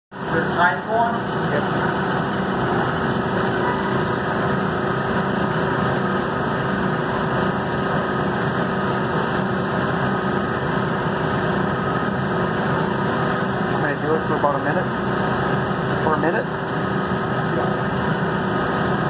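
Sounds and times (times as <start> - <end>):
laser engraving machine drone: 0.2 - 19.0.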